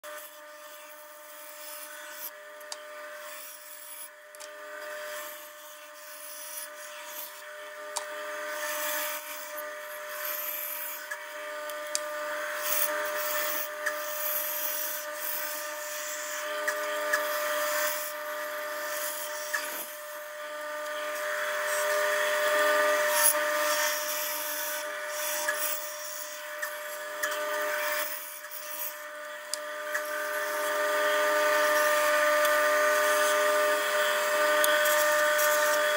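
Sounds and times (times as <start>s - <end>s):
bandsaw cutting wood: 0.0s - 35.9s.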